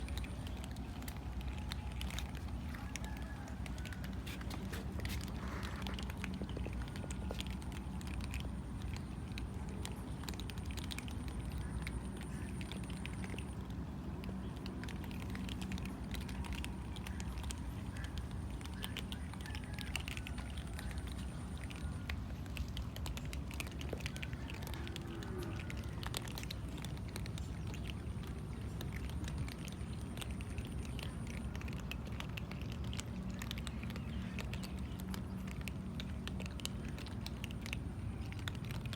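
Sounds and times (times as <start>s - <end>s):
cats eating crunchily: 0.0s - 38.9s
steady low hum: 0.0s - 38.9s.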